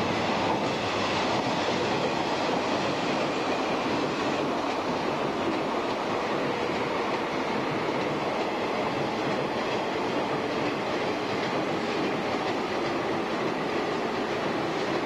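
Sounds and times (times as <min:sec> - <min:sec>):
electric train passing close by: 0:00.0 - 0:15.0.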